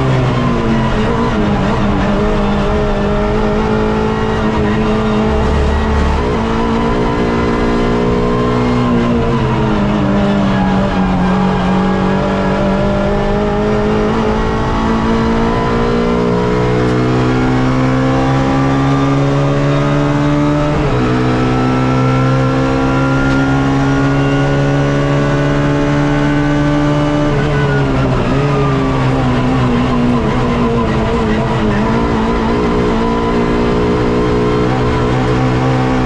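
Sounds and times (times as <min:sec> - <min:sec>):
race car engine at full throttle: 0:00.0 - 0:36.0.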